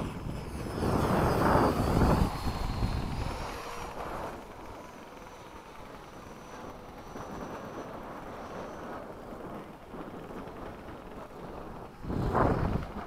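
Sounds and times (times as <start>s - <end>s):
model jet fan passing fast: 0.0s - 13.0s.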